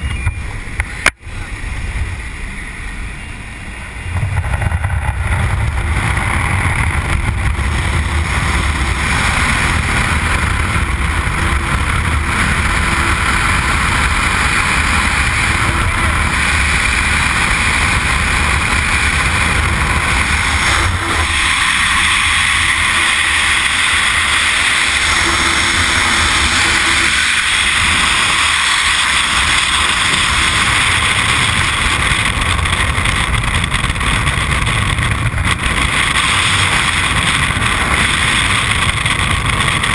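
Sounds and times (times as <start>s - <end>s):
airplane engine: 0.0s - 39.9s
wind rushing on microphone: 0.0s - 39.9s.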